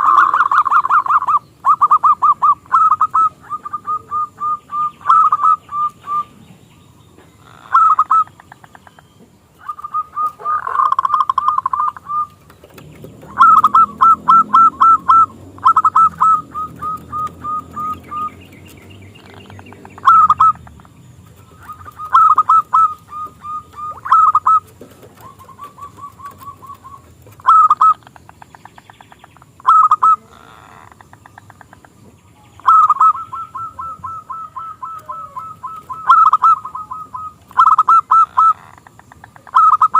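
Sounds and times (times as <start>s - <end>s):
dove cooing: 0.0s - 6.5s, 7.2s - 8.4s, 9.6s - 28.3s, 29.6s - 31.0s, 31.6s - 39.9s.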